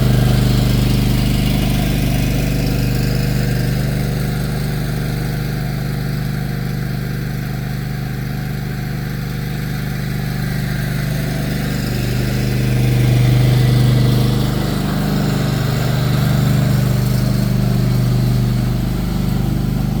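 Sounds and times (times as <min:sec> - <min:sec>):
lawn tractor engine driving by: 0:00.0 - 0:20.0.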